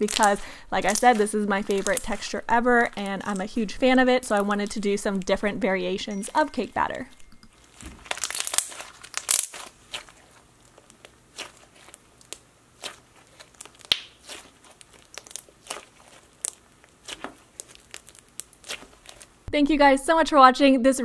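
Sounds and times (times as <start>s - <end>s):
slime squelching and crackling: 0.0s - 19.5s.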